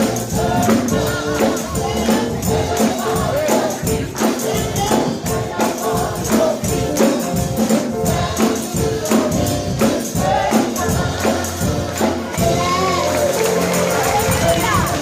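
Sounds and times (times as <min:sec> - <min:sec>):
choir singing gospel: 0:00.0 - 0:15.0
rhythmic percussion beat: 0:00.0 - 0:15.0.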